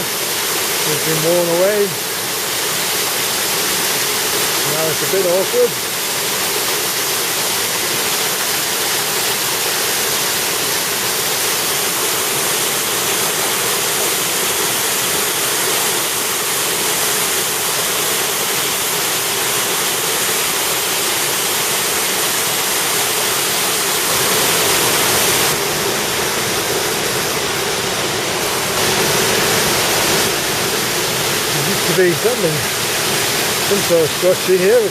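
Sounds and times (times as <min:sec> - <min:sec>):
fast-flowing river water rushing: 0:00.0 - 0:34.9.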